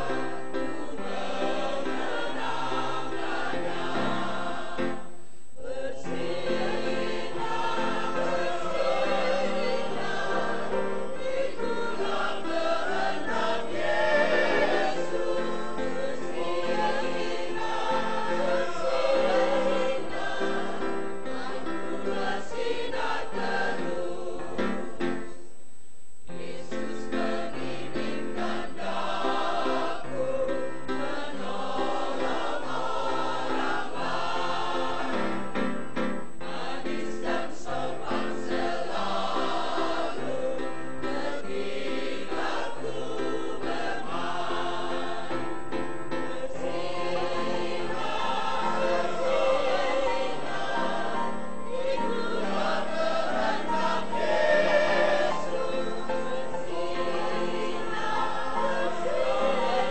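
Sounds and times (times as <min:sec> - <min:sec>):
mixed choir singing: 0:00.0 - 0:25.2, 0:26.3 - 0:59.9.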